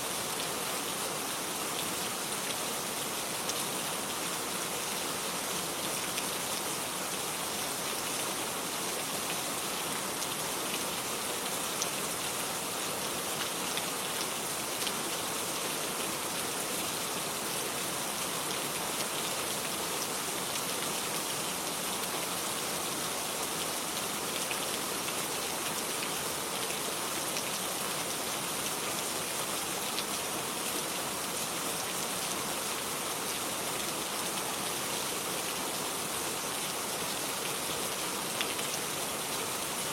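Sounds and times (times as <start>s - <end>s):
rain falling on garden: 0.0s - 39.9s.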